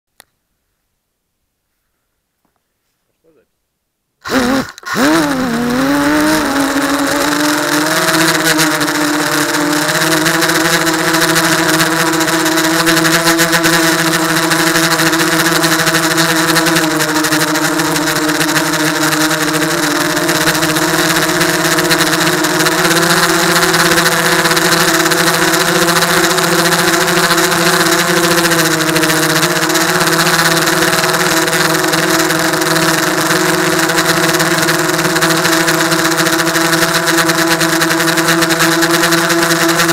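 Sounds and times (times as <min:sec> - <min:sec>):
quadcopter propellers whining: 0:04.2 - 0:39.9.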